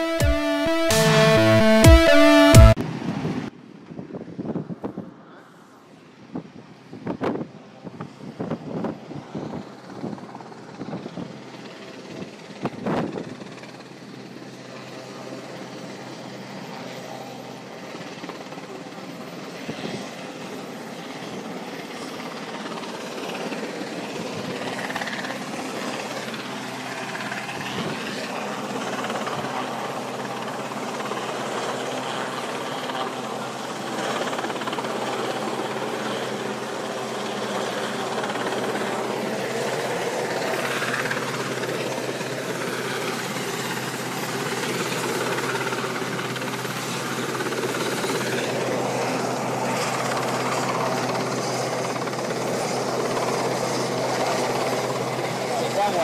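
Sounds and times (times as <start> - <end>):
helicopter rotor and engine: 5.9 - 56.0.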